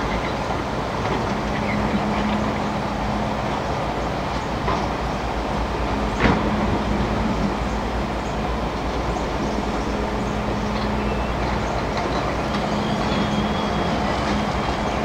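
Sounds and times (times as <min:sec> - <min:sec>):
excavator diesel engine running: 0:00.0 - 0:15.0
rushing river water: 0:00.0 - 0:15.0.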